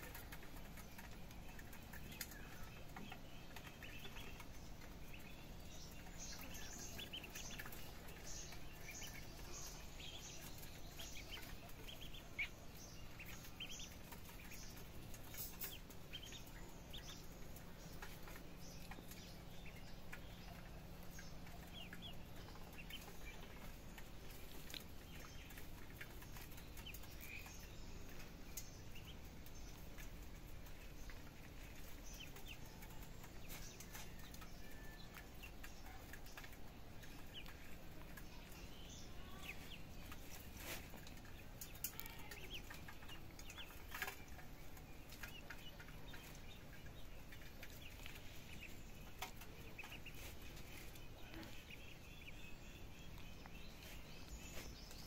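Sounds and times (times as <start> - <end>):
birds chirping faintly: 0.0 - 55.0
low steady hum: 0.0 - 55.0.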